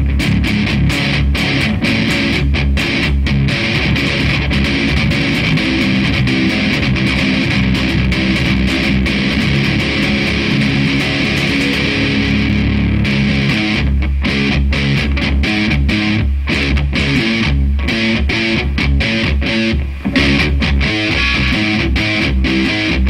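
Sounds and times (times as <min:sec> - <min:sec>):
heavy metal band playing: 0:00.0 - 0:23.0.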